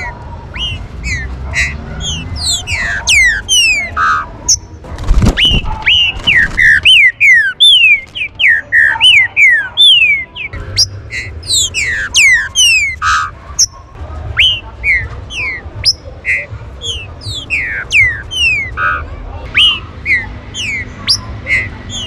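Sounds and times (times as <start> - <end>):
birds whistling sliding notes: 0.5 - 13.8, 14.4 - 22.0.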